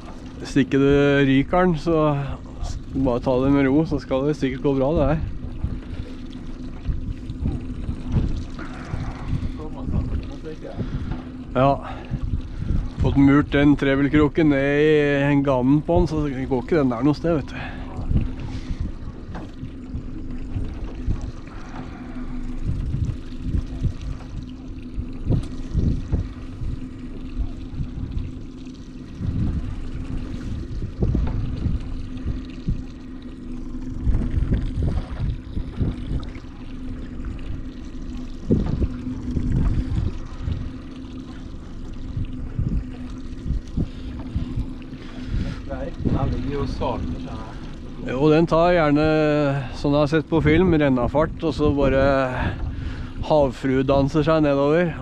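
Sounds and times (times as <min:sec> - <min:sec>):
wind buffeting the microphone: 0:00.0 - 0:33.0, 0:33.6 - 0:55.0
outboard motor idling: 0:00.0 - 0:55.0.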